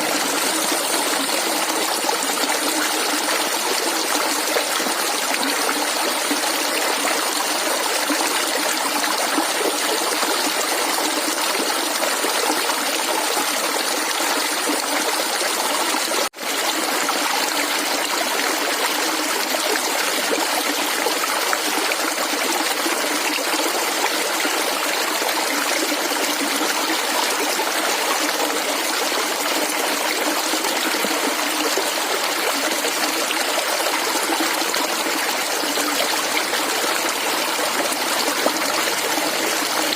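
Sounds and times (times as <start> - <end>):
stream gurgling and trickling: 0.0 - 39.9.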